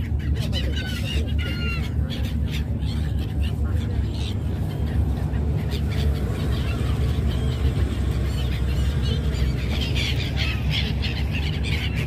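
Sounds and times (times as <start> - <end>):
gulls squealing: 0.0 - 12.0.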